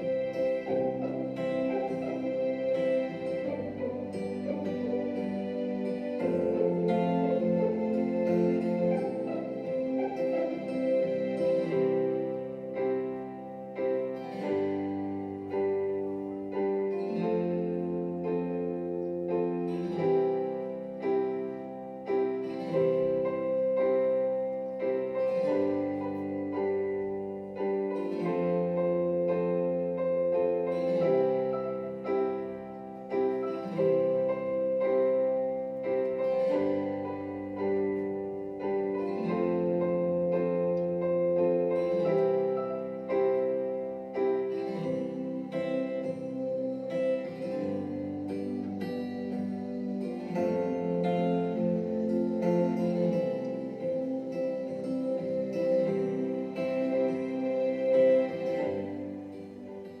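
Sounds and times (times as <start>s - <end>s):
piano music: 0.0s - 60.0s.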